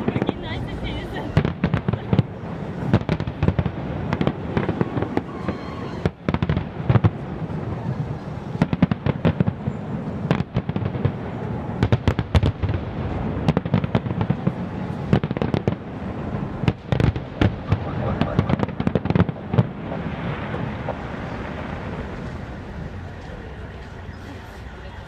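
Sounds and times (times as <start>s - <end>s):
fireworks bangs: 0.0s - 24.7s
fireworks rumble and crackle: 0.0s - 25.0s.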